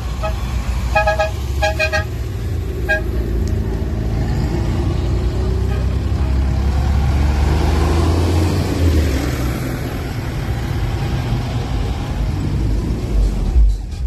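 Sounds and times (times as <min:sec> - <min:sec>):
car passing: 0:02.3 - 0:13.7.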